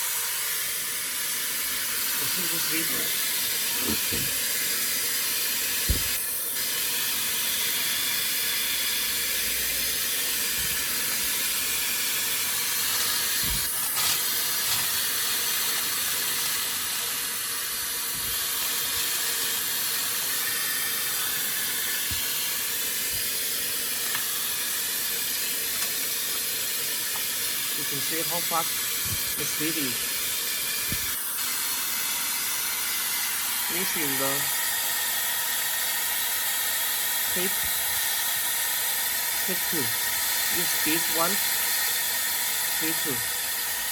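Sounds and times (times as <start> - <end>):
hair dryer blowing: 0.0 - 43.9.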